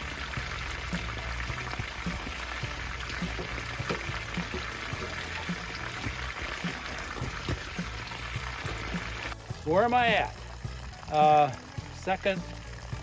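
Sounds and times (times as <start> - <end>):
waterfall splashing over rocks: 0.0 - 12.6
background music with steady beat: 0.0 - 13.0.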